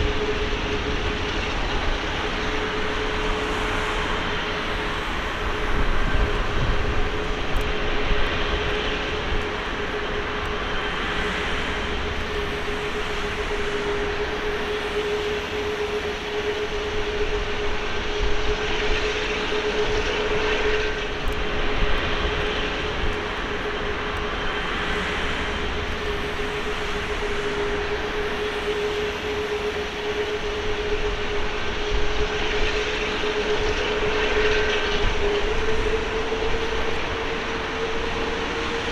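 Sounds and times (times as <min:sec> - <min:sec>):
jet engines roaring: 0:00.0 - 0:38.9
steady jet whine: 0:00.0 - 0:38.9.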